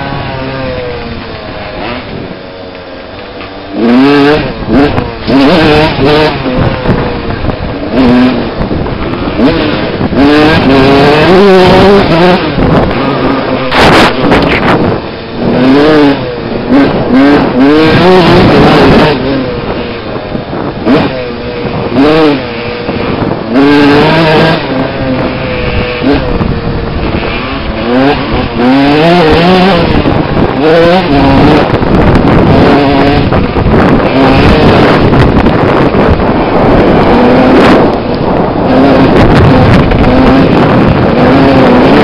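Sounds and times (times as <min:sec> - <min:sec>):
dirt bike engine revving: 0:00.0 - 0:42.0
loud rush of noise: 0:00.0 - 0:42.0.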